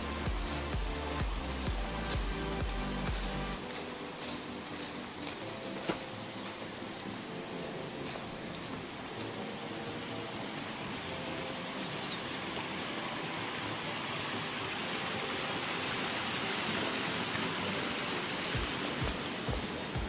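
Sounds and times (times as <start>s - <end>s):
stream water rushing over weir: 0.0s - 20.0s.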